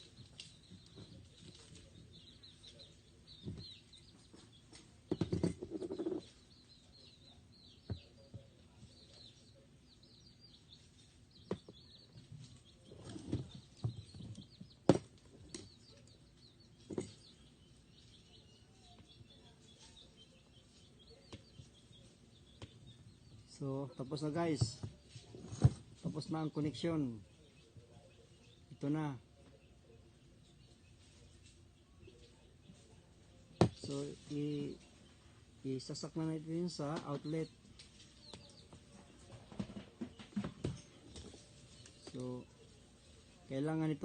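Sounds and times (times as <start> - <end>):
faint bird chirps: 0.0 - 39.3.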